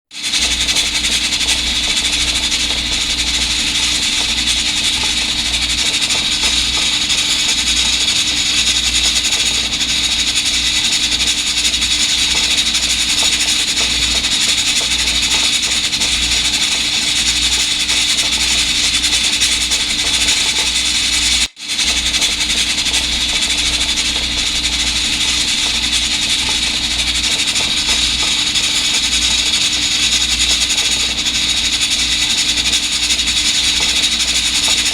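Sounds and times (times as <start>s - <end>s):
rice cooker venting steam: 0.1s - 34.9s.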